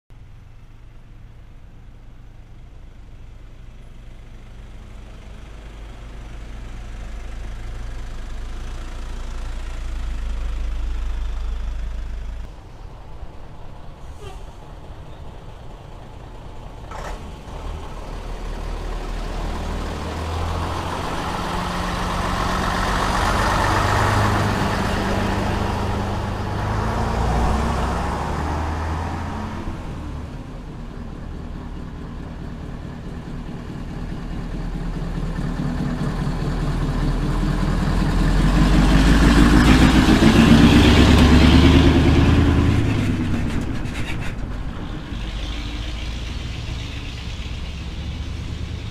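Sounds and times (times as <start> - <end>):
trucks driving past: 0.2 - 48.9.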